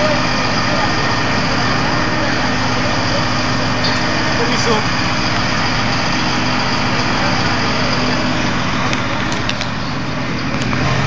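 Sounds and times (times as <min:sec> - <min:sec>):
fire engine motors running: 0:00.0 - 0:11.0.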